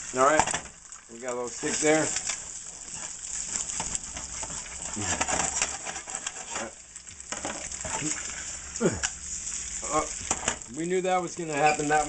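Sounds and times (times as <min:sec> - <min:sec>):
eggs sizzling in hot oil: 0:00.0 - 0:12.0.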